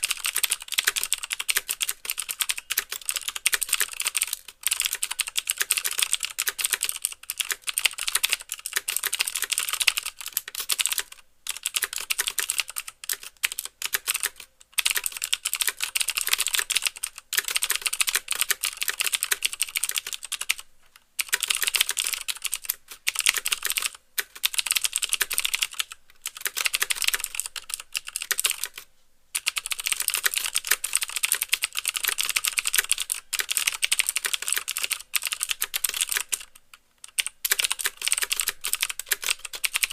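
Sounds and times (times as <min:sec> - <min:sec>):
fast typing on mechanical keyboard: 0:00.0 - 0:20.6, 0:21.2 - 0:28.8, 0:29.4 - 0:39.9.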